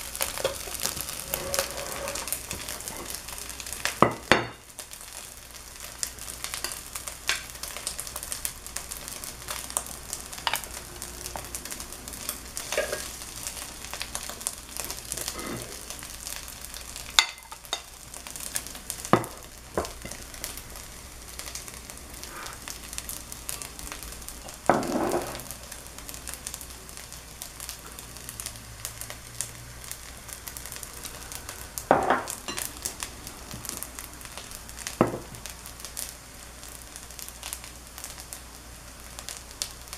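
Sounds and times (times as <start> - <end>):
rice sizzling in a pan: 0.0 - 39.9.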